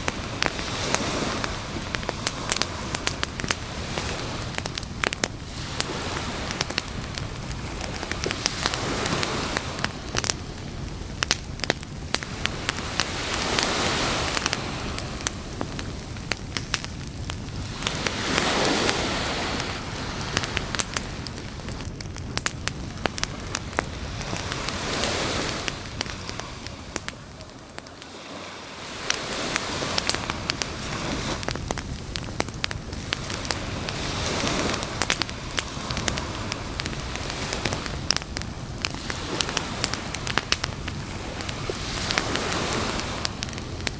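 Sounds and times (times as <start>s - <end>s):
campfire crackling and popping: 0.0s - 43.9s
waves washing on shore: 0.0s - 43.9s.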